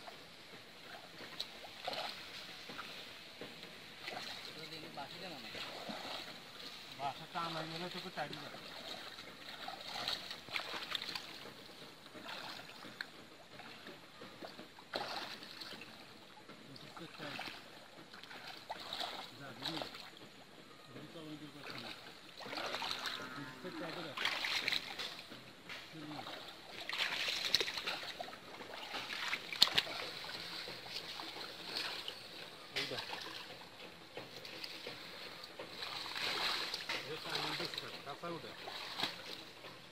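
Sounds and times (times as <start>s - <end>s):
pond water splashing: 0.0s - 39.9s.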